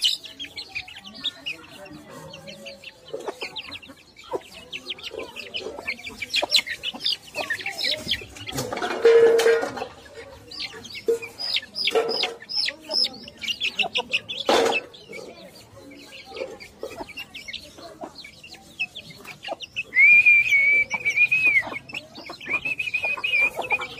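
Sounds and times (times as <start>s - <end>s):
chicks peeping: 0.0s - 23.9s.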